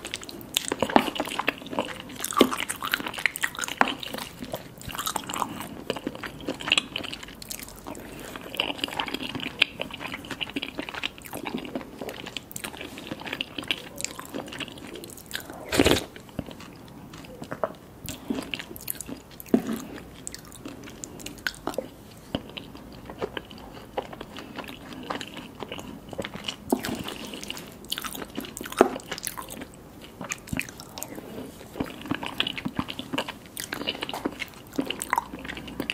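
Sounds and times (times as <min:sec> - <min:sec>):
biting and chewing: 0:00.0 - 0:35.9.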